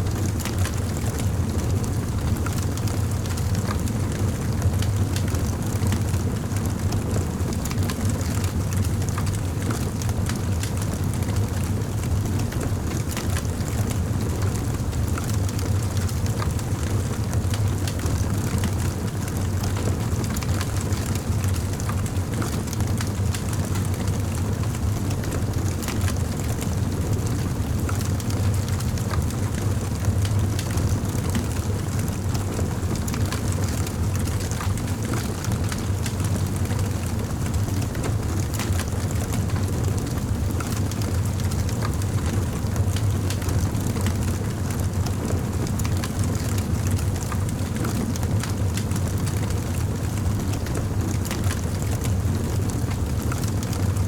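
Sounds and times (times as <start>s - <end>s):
campfire flame rumble: 0.0s - 54.0s
wood crackling and popping: 4.6s - 54.0s.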